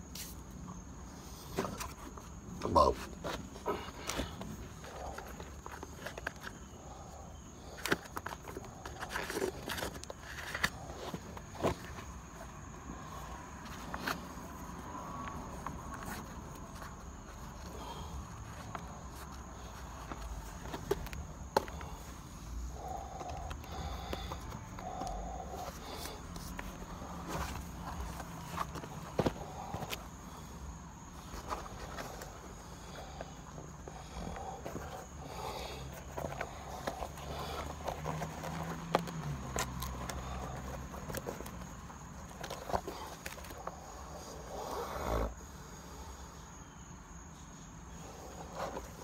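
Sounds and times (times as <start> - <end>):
crackles of rubber sole crumbling: 0.0 - 45.4, 47.9 - 49.0.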